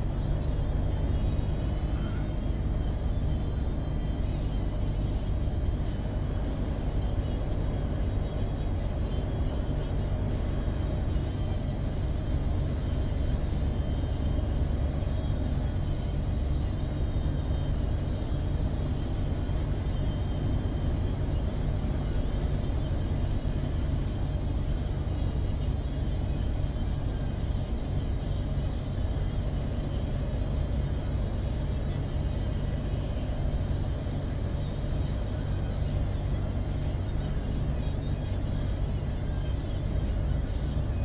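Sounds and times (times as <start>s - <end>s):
road noise: 0.0s - 41.0s
truck engine droning: 0.0s - 41.0s.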